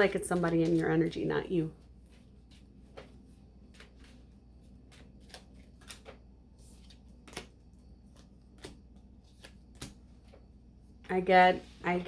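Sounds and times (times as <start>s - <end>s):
cards being shuffled: 0.0s - 1.2s, 1.8s - 10.5s
low steady hum: 0.0s - 12.0s.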